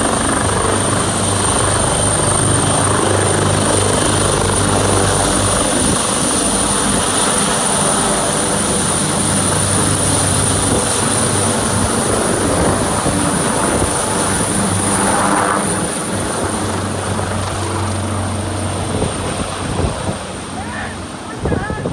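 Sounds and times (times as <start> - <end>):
helicopter rotor and engine: 0.0 - 21.9.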